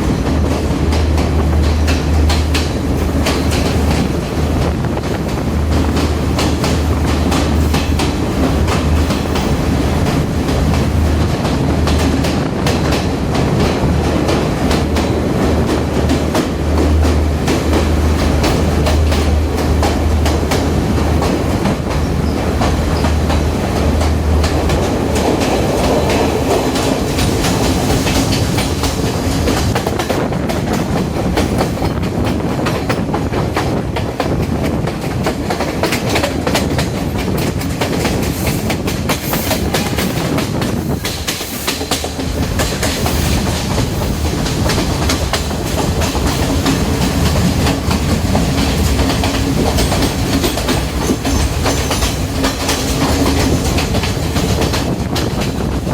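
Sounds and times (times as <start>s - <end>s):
train rumble: 0.0s - 55.9s
wheels clacking over rail joints: 0.0s - 55.9s.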